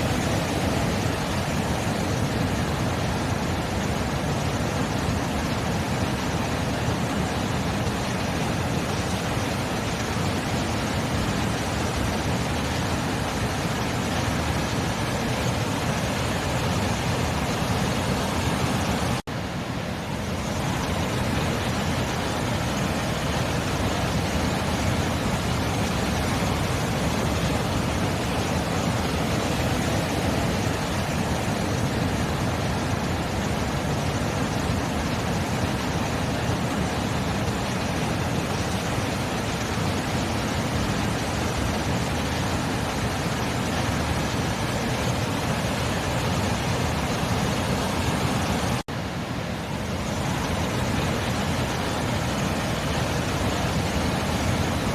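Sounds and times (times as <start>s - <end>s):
waves breaking: 0.0s - 54.9s.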